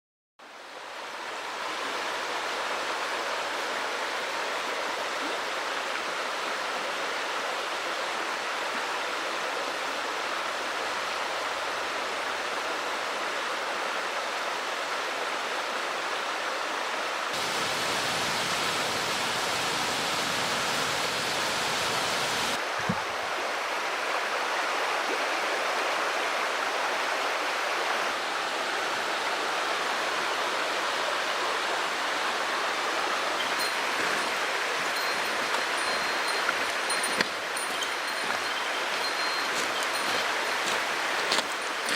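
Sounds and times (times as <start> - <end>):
stream rushing over rocks: 0.4 - 41.9.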